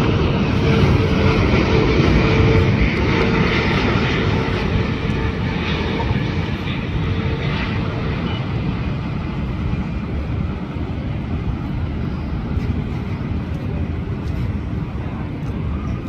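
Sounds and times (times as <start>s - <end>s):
airliner jet engines: 0.0s - 16.0s.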